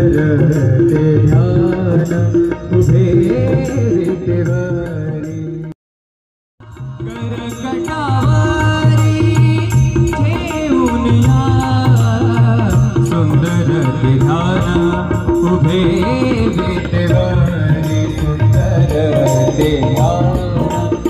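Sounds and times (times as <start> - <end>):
devotional music with drum beat: 0.0 - 5.7, 6.6 - 21.0.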